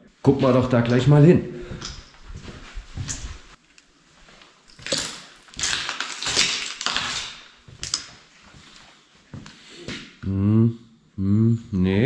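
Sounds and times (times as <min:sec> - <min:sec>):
footsteps on gritty floor: 0:00.3 - 0:10.1.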